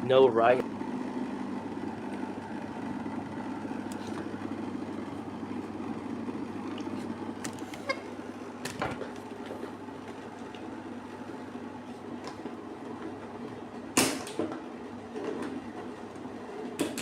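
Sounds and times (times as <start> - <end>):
generator humming: 0.0 - 15.1.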